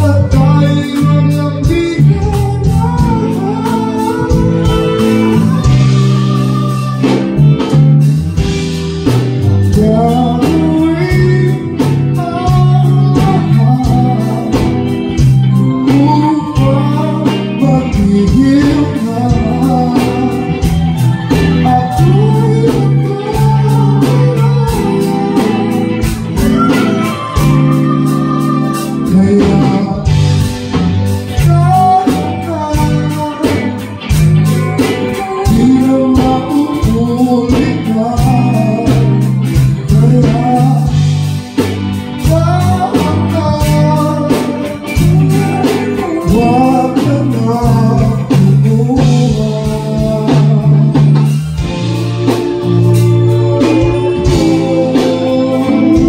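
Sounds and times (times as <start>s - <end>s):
drum kit beat: 0.0s - 56.0s
electric bass: 0.0s - 56.0s
electric guitar: 0.0s - 56.0s
man singing: 0.0s - 56.0s.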